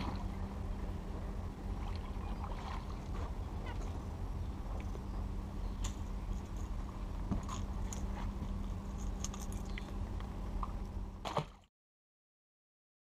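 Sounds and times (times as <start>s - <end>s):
steady low rumble: 0.0s - 11.5s
faint steady hum: 0.0s - 11.7s.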